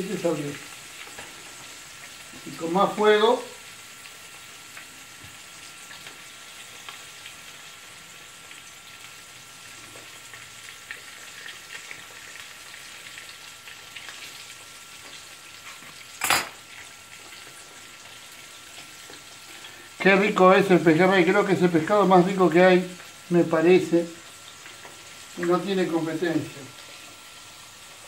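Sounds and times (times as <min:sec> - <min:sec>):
fish frying in oil: 0:00.0 - 0:28.0.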